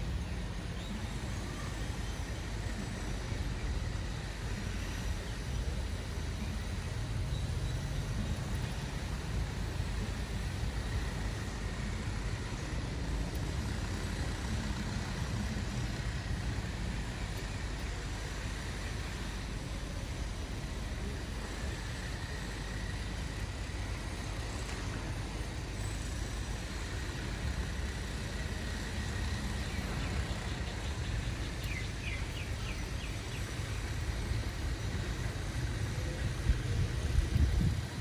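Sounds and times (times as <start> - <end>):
road vehicles rumbling: 0.0 - 38.0.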